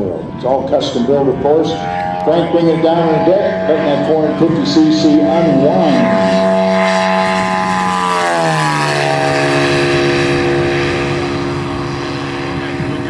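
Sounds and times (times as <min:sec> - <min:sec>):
model plane engine flying by: 0:00.0 - 0:13.0.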